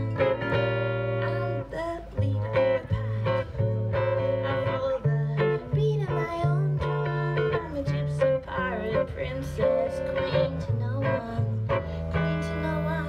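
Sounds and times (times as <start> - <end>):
live guitar playing: 0.0 - 13.0.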